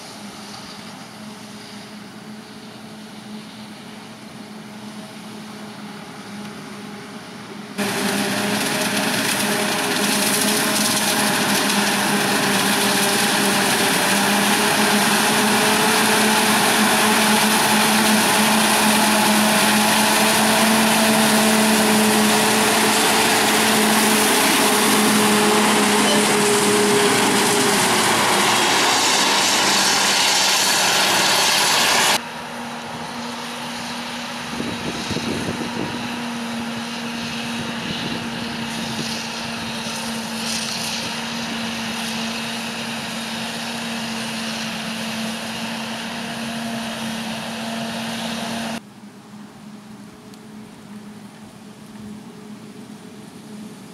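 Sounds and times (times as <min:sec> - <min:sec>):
tractor engine: 0:00.0 - 0:48.8
forage harvester mechanical drone: 0:00.0 - 0:53.9.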